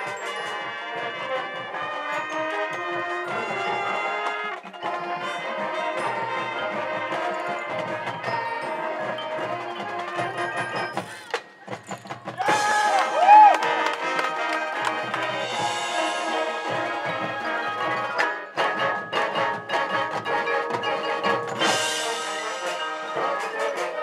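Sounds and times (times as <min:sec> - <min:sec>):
mallet percussion: 0:00.0 - 0:24.0
marching band brass: 0:00.0 - 0:24.0.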